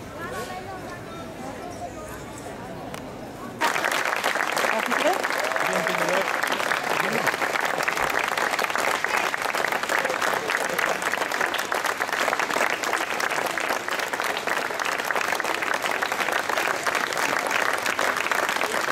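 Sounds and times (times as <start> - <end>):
audience applauding: 3.6 - 18.9.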